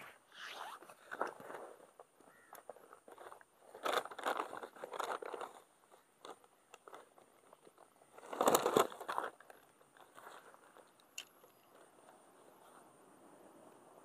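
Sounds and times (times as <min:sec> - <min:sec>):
rustling and crunching handling noise: 0:00.0 - 0:13.1.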